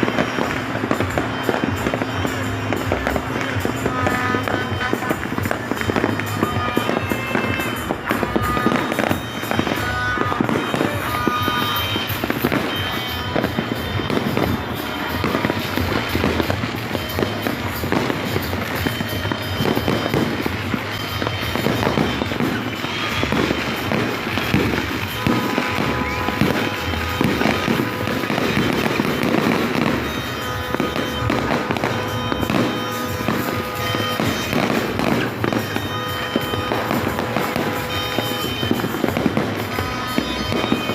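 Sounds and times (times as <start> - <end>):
fireworks bangs and crackling: 0.0 - 40.9
music playing: 0.0 - 40.9.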